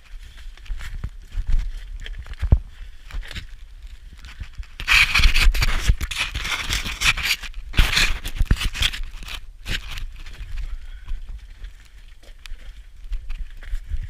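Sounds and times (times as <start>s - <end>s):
scraping over rock and stone: 0.7s - 14.0s.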